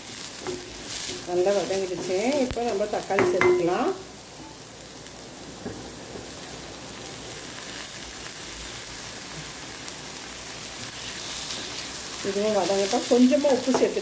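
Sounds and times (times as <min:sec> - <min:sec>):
onions frying in oil: 0:00.0 - 0:14.0.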